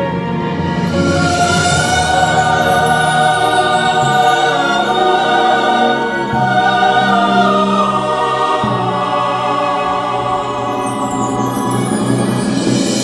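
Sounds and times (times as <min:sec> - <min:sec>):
operatic singing: 0:00.0 - 0:13.0
sustained accompaniment: 0:00.0 - 0:13.0.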